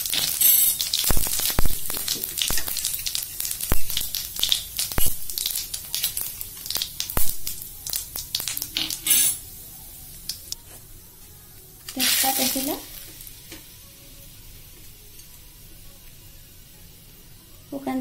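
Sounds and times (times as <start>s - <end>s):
spices sizzling and popping in oil: 0.0s - 18.0s.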